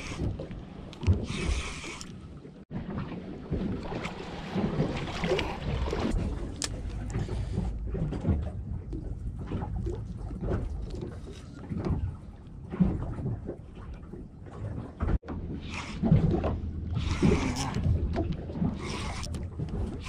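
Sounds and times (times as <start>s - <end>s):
water noise: 0.0s - 20.0s.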